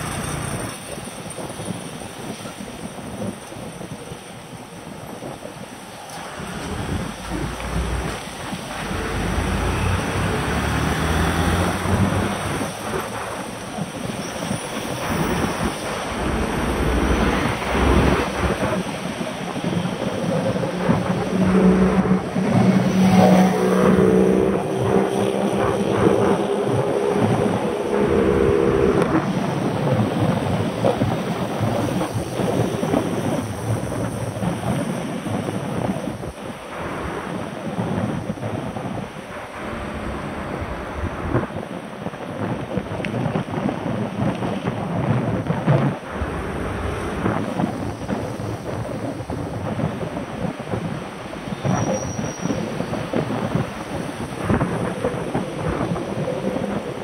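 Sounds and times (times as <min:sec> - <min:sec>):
car traffic: 0:00.0 - 0:57.0
motor vehicle hum: 0:00.0 - 0:57.0
wind buffeting microphone: 0:00.0 - 0:57.0.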